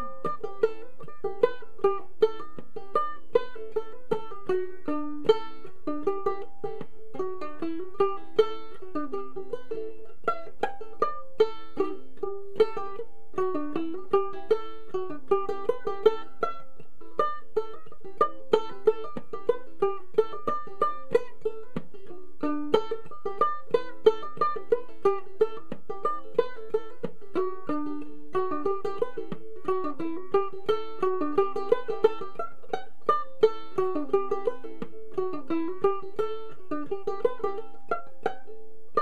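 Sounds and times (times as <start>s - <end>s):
ukulele plucked and strummed: 0.0s - 39.0s.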